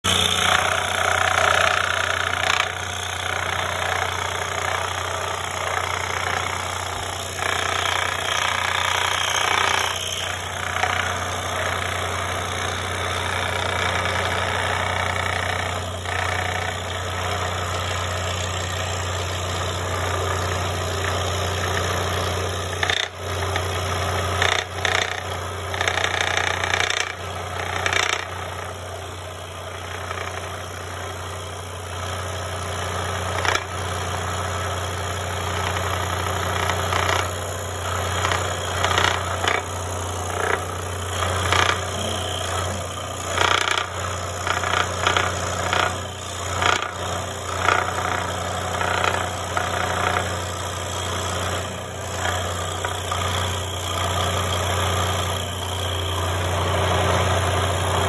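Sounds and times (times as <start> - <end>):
scroll saw cutting wood: 0.0 - 58.0.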